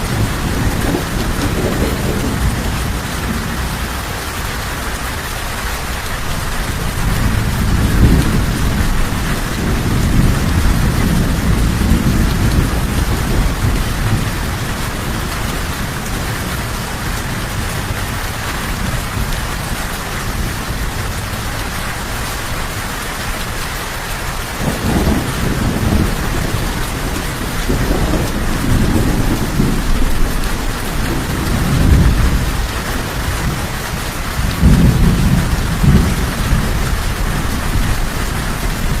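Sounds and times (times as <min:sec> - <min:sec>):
steady rain falling: 0:00.0 - 0:39.0
thunder rumbling: 0:00.0 - 0:39.0.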